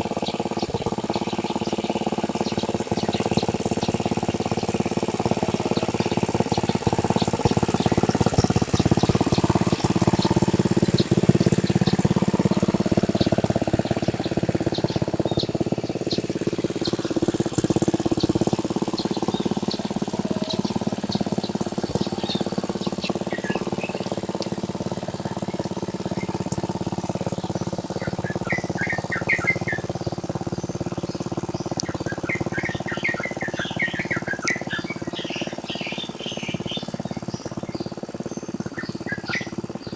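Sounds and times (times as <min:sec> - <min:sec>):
birds chirping: 0:00.0 - 0:39.9
tractor engine running: 0:00.0 - 0:39.9.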